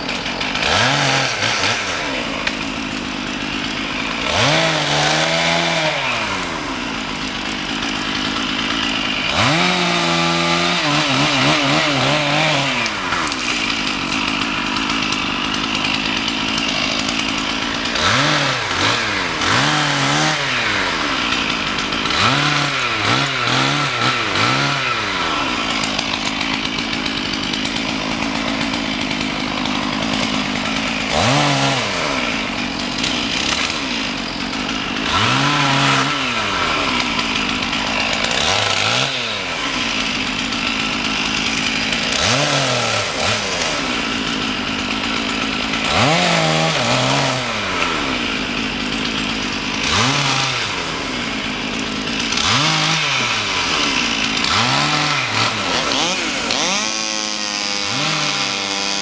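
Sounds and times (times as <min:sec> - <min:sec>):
chainsaws revving: 0:00.0 - 0:59.0.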